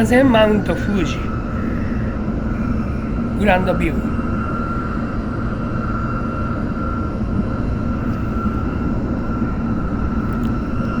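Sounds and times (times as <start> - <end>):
constant hum: 0.0 - 11.0
high steady whine: 0.0 - 11.0.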